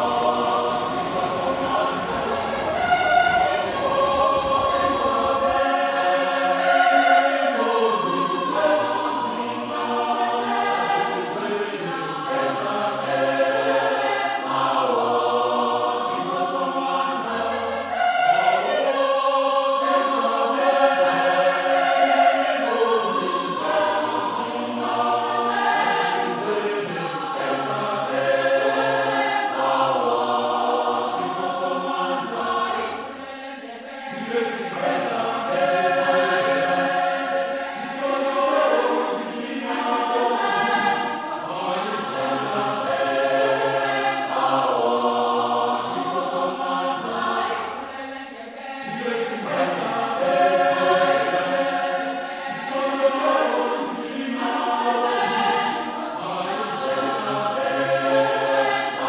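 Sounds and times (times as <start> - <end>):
loud steady hiss: 0.0 - 48.0
choir singing slow chords: 0.0 - 59.0.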